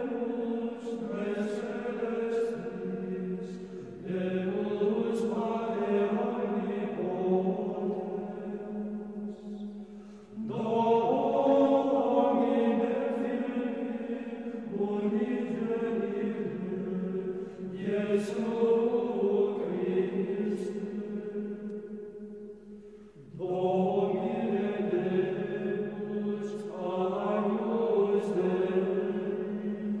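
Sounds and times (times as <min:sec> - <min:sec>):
choir chanting sustained notes: 0:00.0 - 0:30.0.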